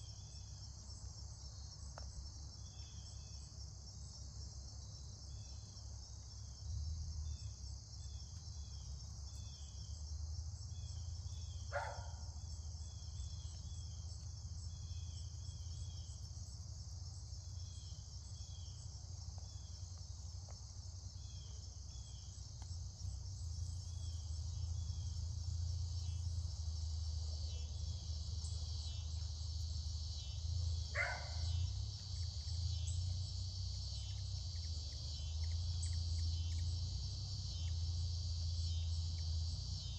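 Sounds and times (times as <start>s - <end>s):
crickets and insects chirring: 0.0s - 39.9s
low steady hum: 0.0s - 39.9s.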